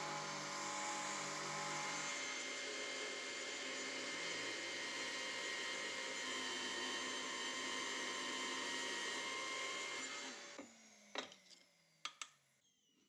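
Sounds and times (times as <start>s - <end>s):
drill press whirring: 0.0s - 12.2s
falling whine of drill winding down: 0.0s - 12.8s.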